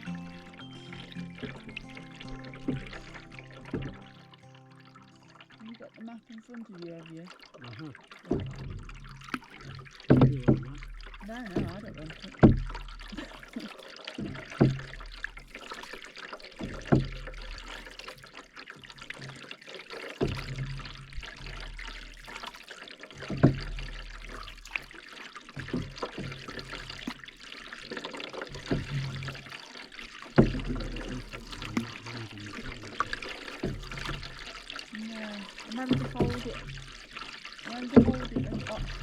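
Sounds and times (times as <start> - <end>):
paddle splashing in water: 0.0 - 39.0
water dripping off paddle: 0.0 - 39.0.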